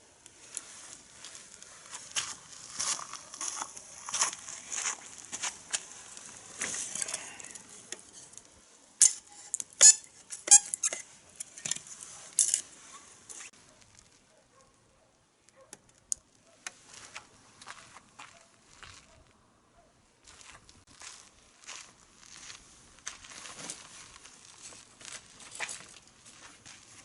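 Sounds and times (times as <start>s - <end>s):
wood fire crackling: 0.0s - 18.8s, 20.2s - 27.0s.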